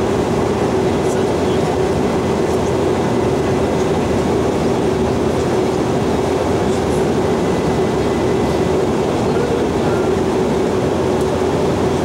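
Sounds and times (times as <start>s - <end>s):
jet engines idling: 0.0s - 12.0s.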